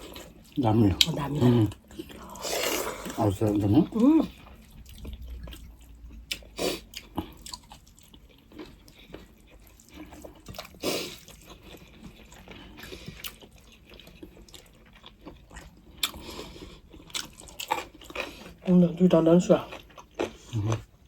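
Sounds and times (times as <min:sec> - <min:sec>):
chewing with wet smacks: 0:00.0 - 0:21.0.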